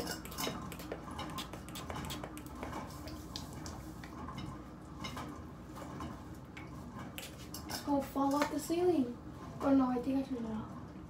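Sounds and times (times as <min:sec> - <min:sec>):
ceiling fan hum: 0:00.0 - 0:11.0.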